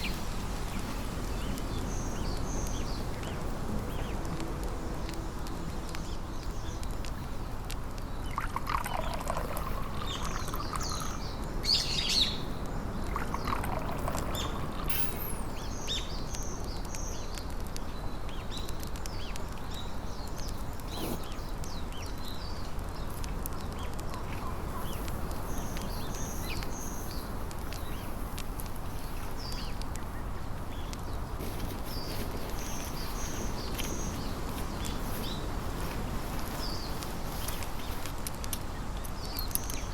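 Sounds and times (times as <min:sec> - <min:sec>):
birds chirping: 0:00.0 - 0:28.2, 0:28.8 - 0:39.9
low falling bird calls: 0:00.0 - 0:28.2, 0:28.9 - 0:39.9
low background noise: 0:00.0 - 0:39.9.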